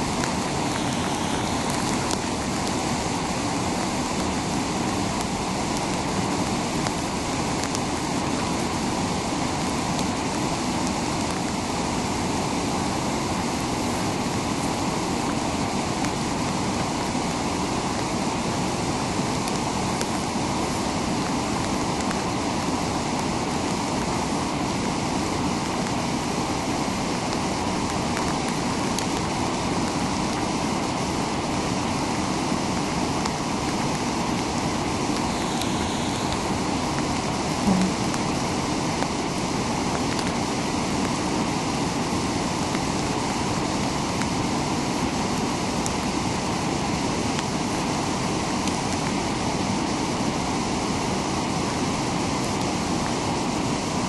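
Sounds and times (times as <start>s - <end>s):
stream rapids rushing: 0.0s - 54.0s.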